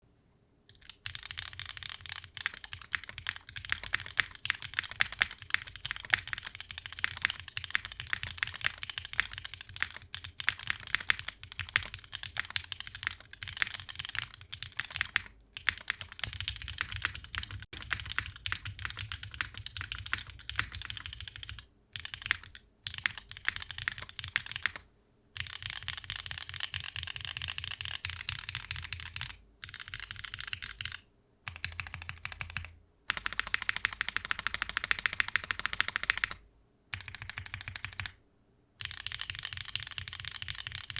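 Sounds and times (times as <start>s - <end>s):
typing on mechanical keyboard: 0.7s - 24.8s, 25.4s - 38.2s, 38.8s - 40.9s.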